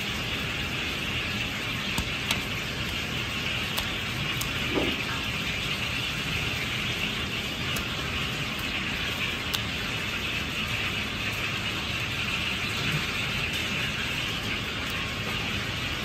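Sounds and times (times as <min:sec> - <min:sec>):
commercial kitchen background noise: 0:00.0 - 0:16.0.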